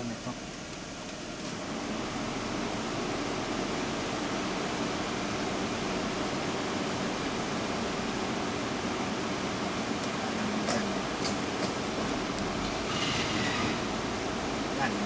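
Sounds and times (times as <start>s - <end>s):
car air conditioning blower hiss: 0.0s - 15.0s.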